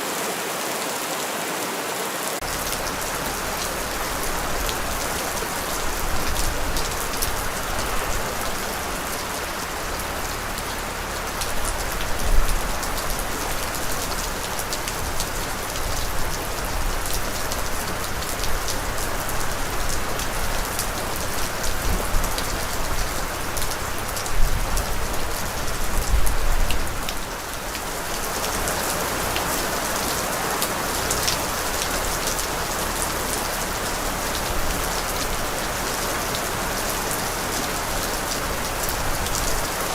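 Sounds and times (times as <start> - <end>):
steady rain falling: 0.0 - 39.9
low rumbles: 2.4 - 39.9.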